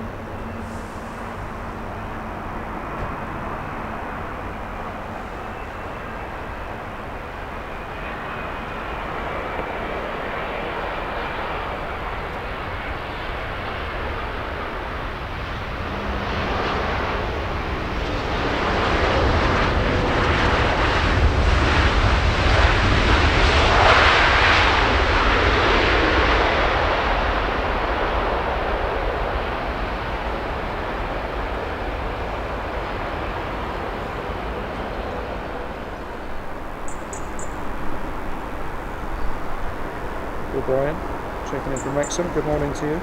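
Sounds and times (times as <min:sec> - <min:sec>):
jet airliner passing: 0:00.0 - 0:43.0.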